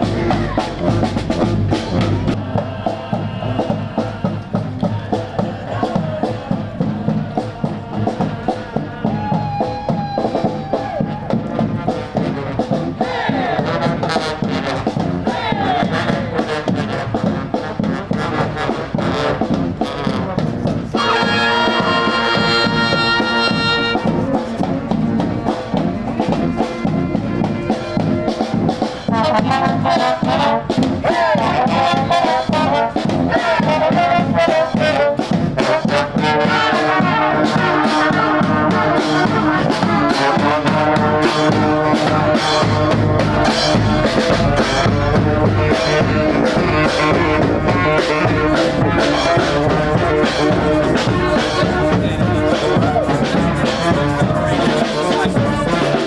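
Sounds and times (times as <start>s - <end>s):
street brass band playing: 0.0s - 56.0s.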